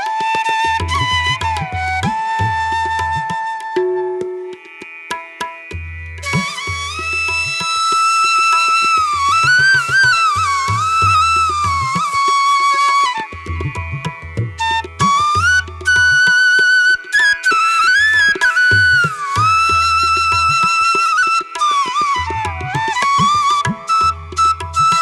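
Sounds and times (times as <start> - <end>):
flute-like melody bending in pitch: 0.0 - 4.7, 6.2 - 25.0.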